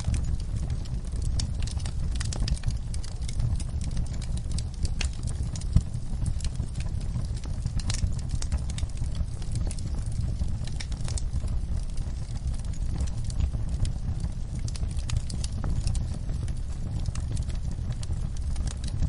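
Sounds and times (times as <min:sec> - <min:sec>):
low rumble: 0:00.0 - 0:19.0
wood fire crackling: 0:00.0 - 0:19.0.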